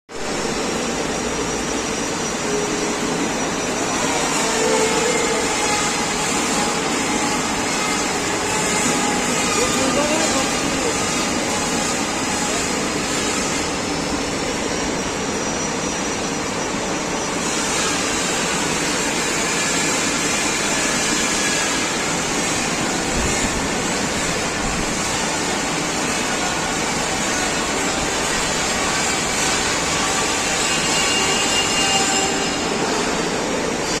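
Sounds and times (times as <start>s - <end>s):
welding arc sizzling: 0.2s - 34.0s.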